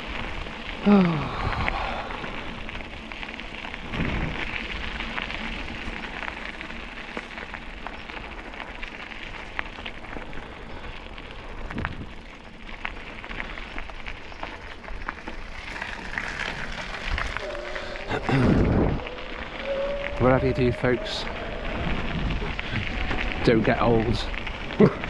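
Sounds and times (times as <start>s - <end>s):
wheels rolling over rough path: 0.0s - 25.0s.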